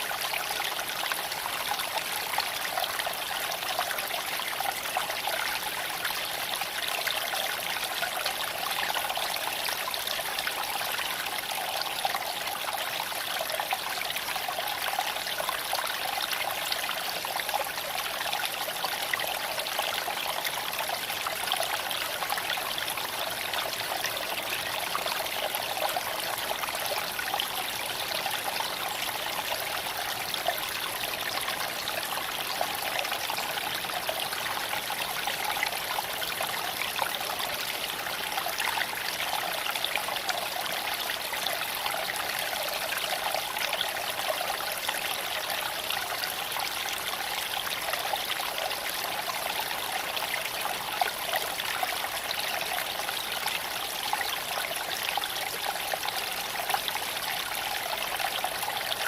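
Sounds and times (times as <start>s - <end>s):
creek trickling over stones: 0.0s - 59.0s.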